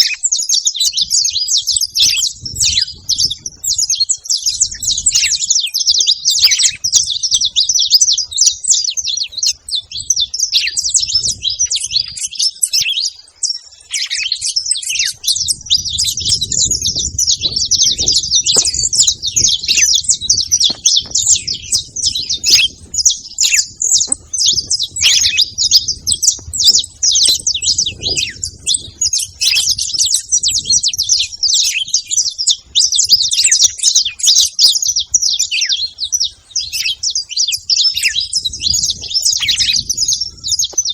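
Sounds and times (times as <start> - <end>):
finches chirping and twittering: 0.0 - 40.9.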